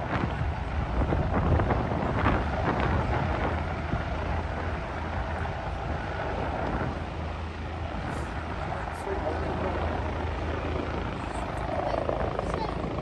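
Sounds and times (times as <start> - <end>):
low engine rumble: 0.0 - 13.0
wind buffeting microphone: 0.0 - 13.0.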